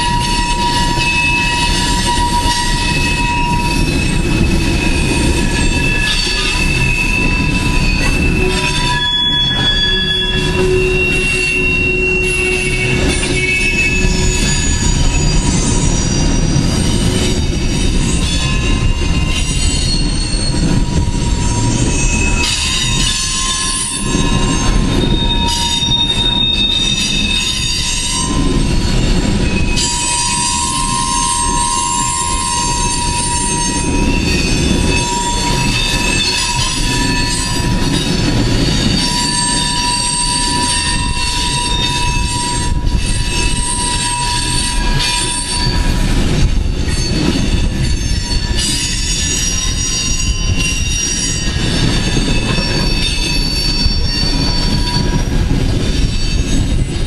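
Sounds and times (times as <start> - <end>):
metal wheel squeal: 0.0 - 57.0
train wheels rumbling on rails: 0.0 - 57.0.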